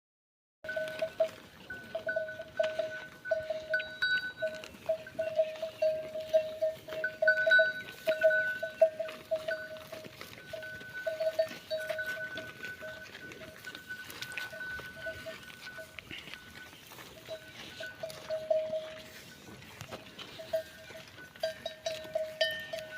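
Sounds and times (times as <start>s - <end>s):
neck bell clanking: 0.7s - 22.9s.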